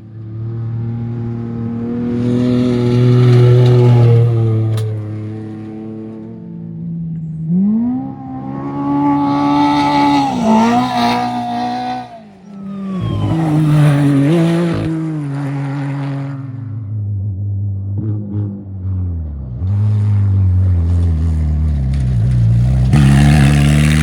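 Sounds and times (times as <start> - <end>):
race vehicle engine at hard throttle: 0.0 - 24.0.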